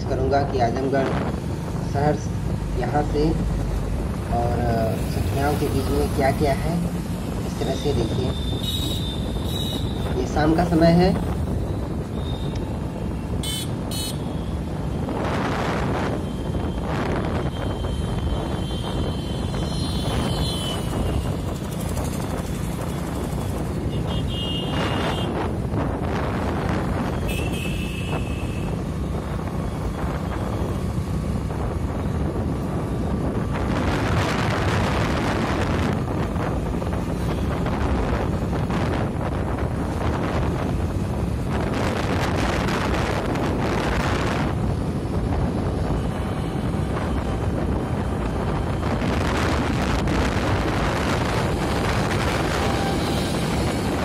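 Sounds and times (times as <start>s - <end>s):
road and traffic rumble: 0.0s - 54.0s
wind buffeting microphone: 0.0s - 54.0s.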